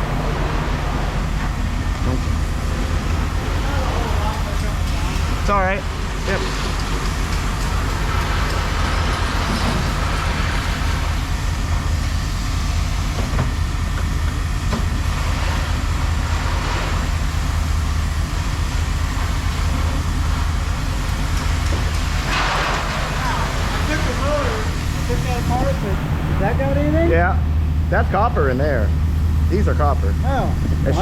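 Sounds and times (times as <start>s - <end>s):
large engine rumbling: 0.0s - 31.0s.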